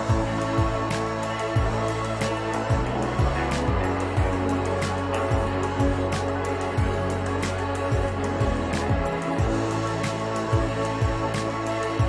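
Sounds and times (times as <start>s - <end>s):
background music with low beat: 0.0s - 12.0s.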